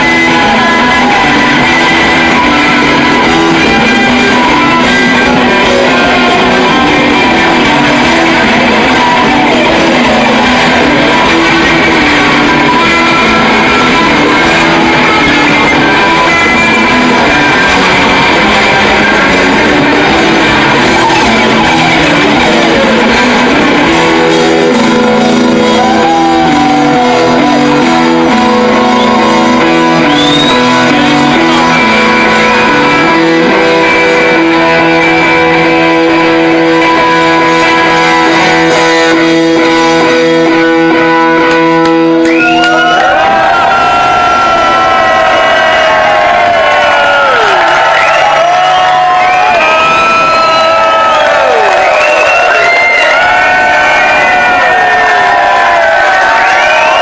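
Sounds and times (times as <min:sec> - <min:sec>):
loud rock band playing: 0:00.0 - 0:57.0
sliding electric guitar notes: 0:00.0 - 0:57.0.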